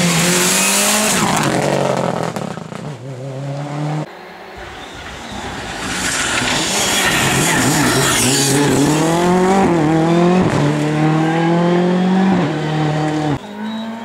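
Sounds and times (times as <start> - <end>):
rally car engine revving hard: 0.0 - 4.1, 6.5 - 14.0.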